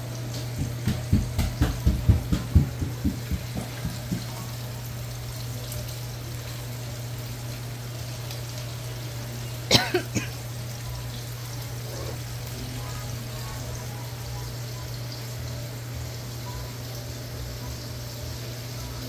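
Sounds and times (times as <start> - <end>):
fish sizzling in a frying pan: 2.8 - 19.0.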